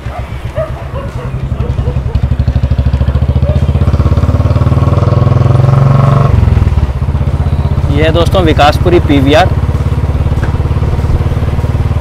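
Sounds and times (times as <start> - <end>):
motorcycle engine pulsing: 0.6 - 12.0.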